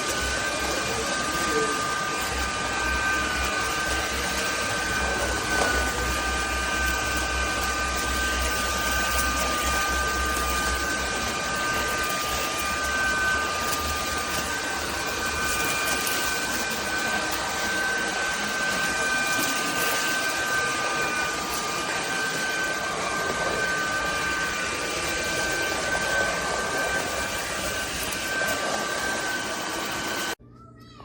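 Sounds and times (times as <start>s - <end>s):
stick vacuum cleaner running: 0.0s - 30.4s.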